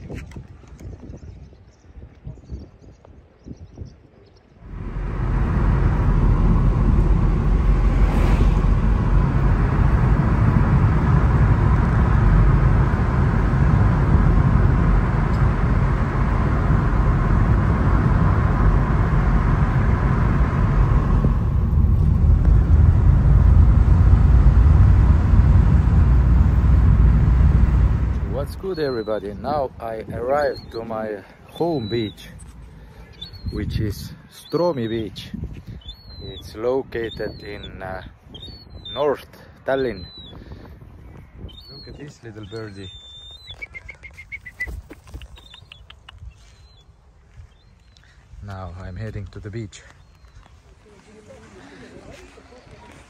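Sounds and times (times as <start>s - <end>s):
car road and wind noise: 0.0s - 50.8s.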